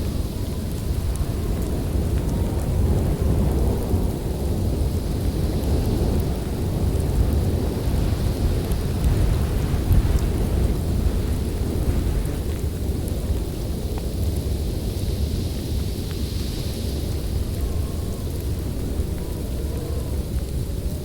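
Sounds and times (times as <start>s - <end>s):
deep wind rumble: 0.0s - 21.0s.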